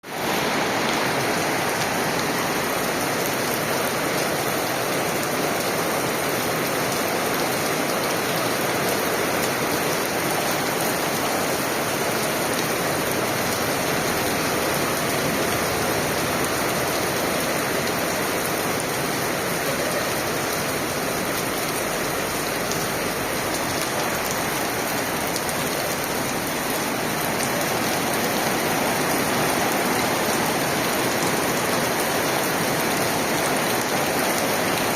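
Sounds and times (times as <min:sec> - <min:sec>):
torrential rain pouring: 0:00.0 - 0:34.9.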